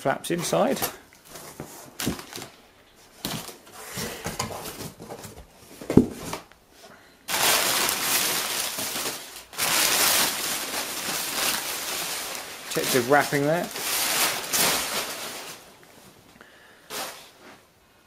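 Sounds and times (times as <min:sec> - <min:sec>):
packaging rustling: 0:00.6 - 0:06.5, 0:07.3 - 0:16.1.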